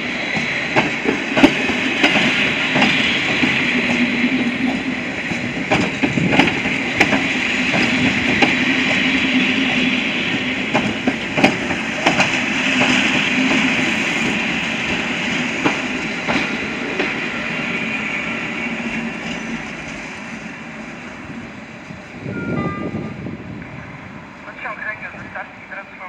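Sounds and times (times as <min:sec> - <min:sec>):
low train hum: 0:00.0 - 0:26.0
train wheels rumbling on rail: 0:00.0 - 0:26.0.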